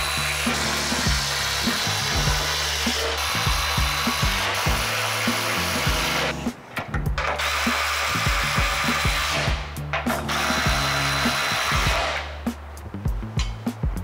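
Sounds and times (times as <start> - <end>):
power tool running: 0.0 - 6.5, 7.2 - 12.4
background music with steady beat: 0.0 - 14.0.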